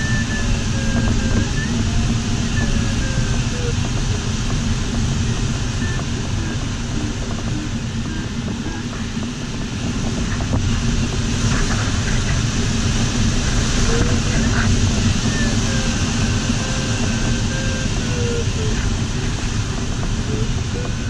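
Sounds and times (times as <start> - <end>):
rush of airflow in cockpit: 0.0 - 21.0.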